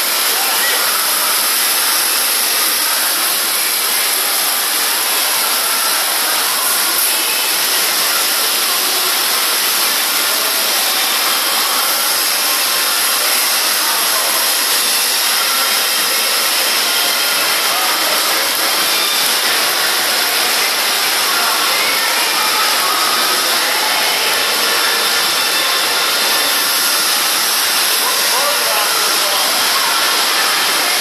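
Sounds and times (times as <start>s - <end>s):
heavy rain on a roof: 0.0s - 31.0s
water streaming onto floor: 0.0s - 31.0s.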